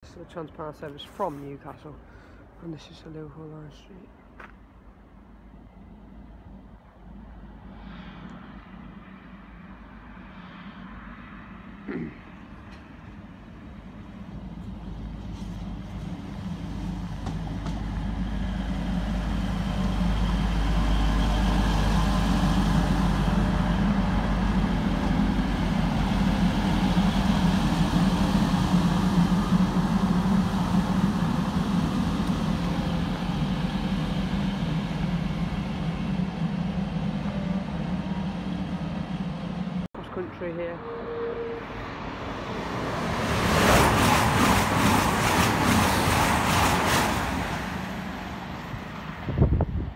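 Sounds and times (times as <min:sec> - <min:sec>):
diesel train engine hum: 0:00.0 - 0:49.9
wheel and rail rumble: 0:00.0 - 0:49.9.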